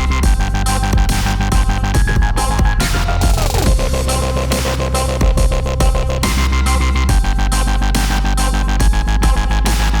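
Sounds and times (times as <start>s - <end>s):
dubstep music with heavy bass: 0.0s - 10.0s.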